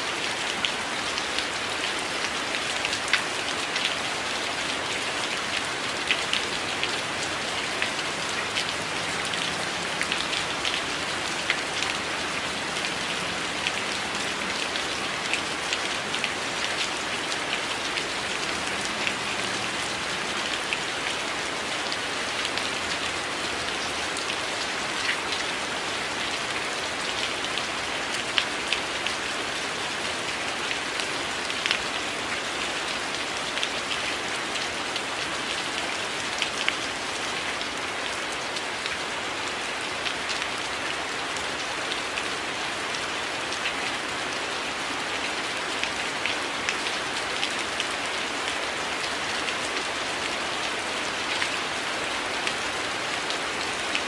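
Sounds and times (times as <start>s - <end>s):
rain on a window: 0.0s - 54.0s.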